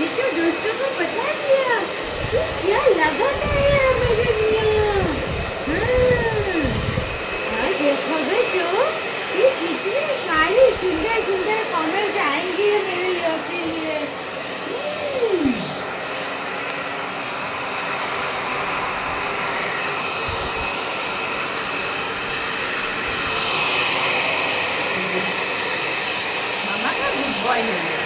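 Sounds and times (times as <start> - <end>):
hair dryer blowing: 0.0 - 28.0.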